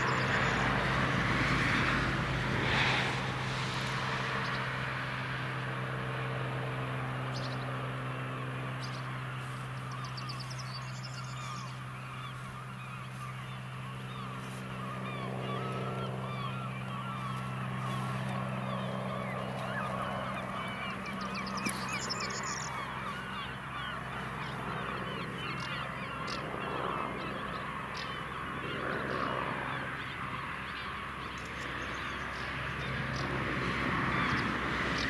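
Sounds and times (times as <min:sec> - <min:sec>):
distant helicopter drone: 0:00.0 - 0:35.0
flock of birds calling: 0:00.0 - 0:35.0.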